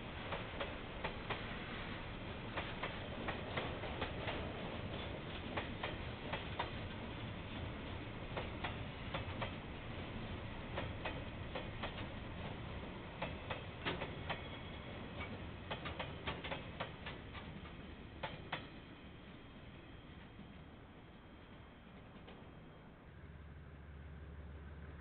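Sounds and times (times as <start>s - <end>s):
sharp clicks of passing train: 0.0s - 25.0s
train rumble: 0.0s - 25.0s.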